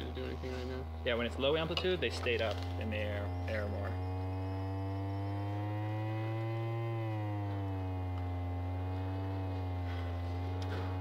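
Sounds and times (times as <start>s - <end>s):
loudspeaker low buzzy tone: 0.0s - 11.0s.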